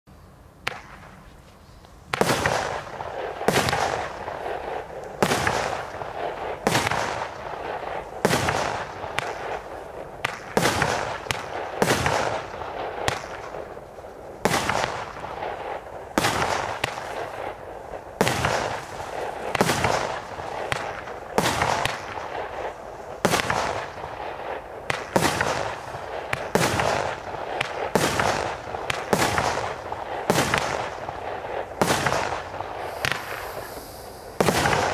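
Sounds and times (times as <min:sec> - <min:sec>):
firework shots banging: 0:02.1 - 0:13.8, 0:14.4 - 0:17.6, 0:18.2 - 0:34.9.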